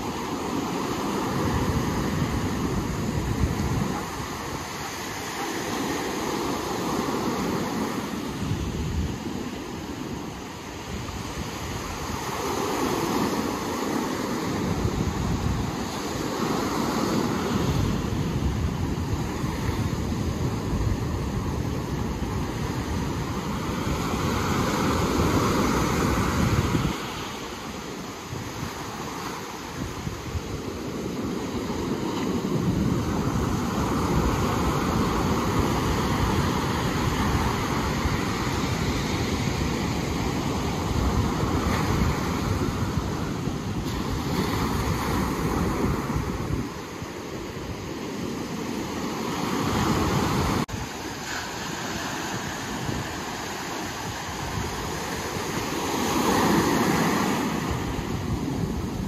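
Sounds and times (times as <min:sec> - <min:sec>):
waves breaking: 0:00.0 - 0:59.0
wind on microphone: 0:00.0 - 0:59.0.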